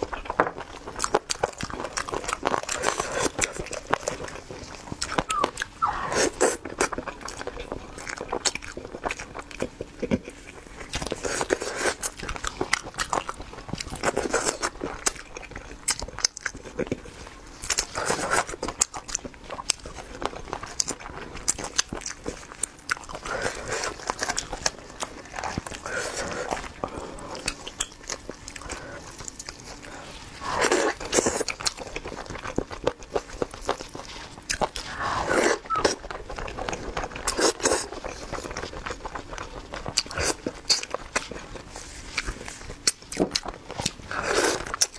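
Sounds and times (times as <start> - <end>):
wet chewing and lip-smacking: 0.0 - 44.9.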